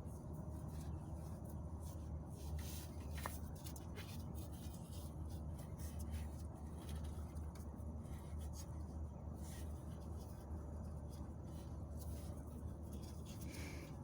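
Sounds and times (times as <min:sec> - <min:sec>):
faint scratching and clicking: 0:00.0 - 0:14.0
steady low hum: 0:00.0 - 0:14.0.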